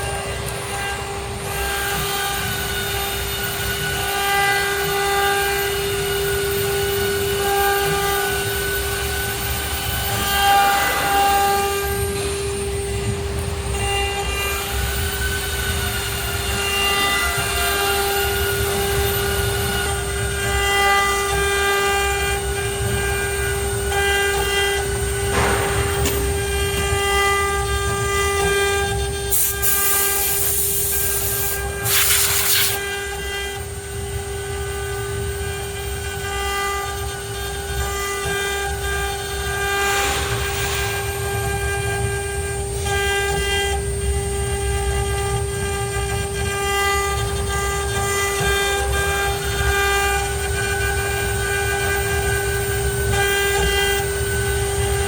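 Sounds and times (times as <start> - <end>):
cnc router whining: 0.0 - 55.0.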